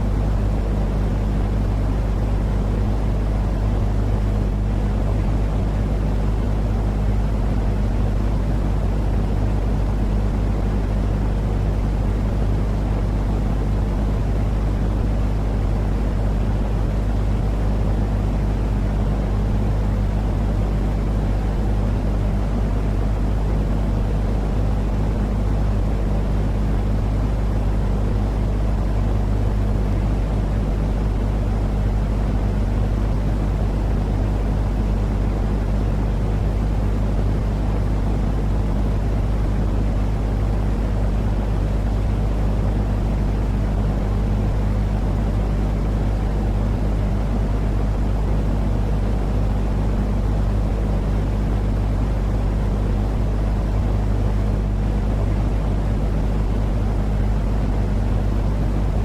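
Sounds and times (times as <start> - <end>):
deep rumbling white noise hiss: 0.0 - 59.0
faint low hum: 0.0 - 59.0.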